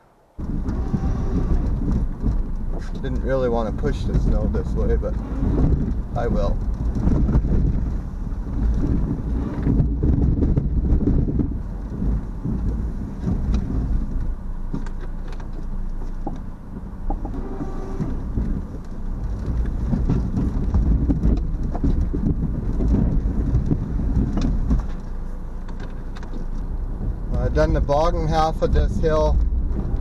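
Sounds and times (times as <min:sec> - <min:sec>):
car engine running under load: 0:00.2 - 0:30.0.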